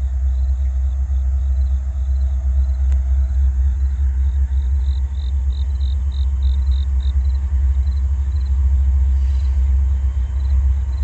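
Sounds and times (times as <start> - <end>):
diesel locomotives rumbling: 0.0 - 11.0
insect chirping: 0.0 - 11.0.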